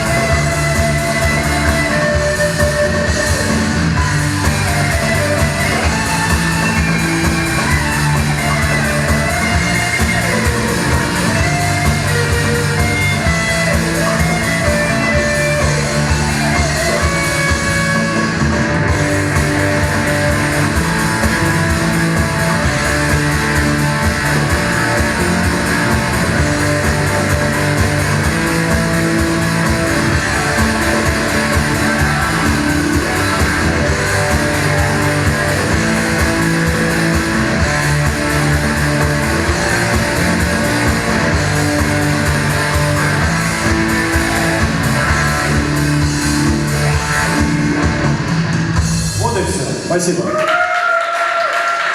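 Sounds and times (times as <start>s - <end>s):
live rock band playing: 0.0s - 50.2s.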